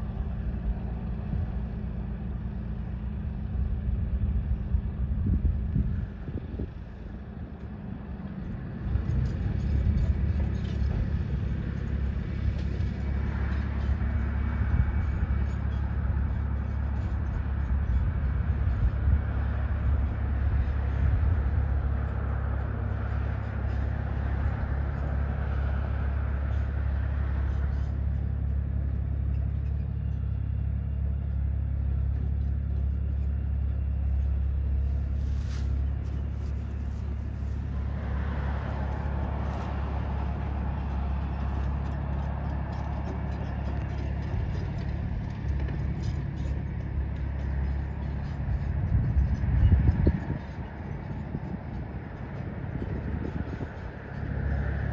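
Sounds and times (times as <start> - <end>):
ship engines humming: 0.0 - 54.9.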